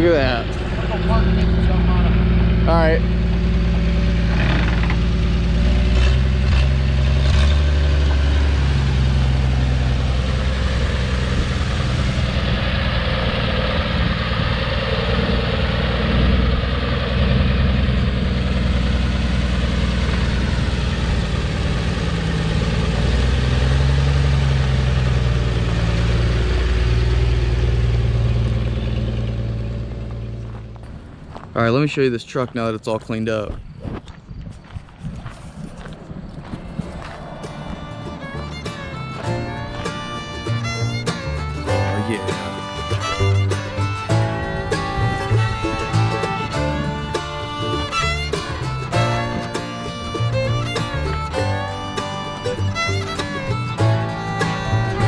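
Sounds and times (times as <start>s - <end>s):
pickup truck engine revving: 0.0s - 30.8s, 36.5s - 55.0s.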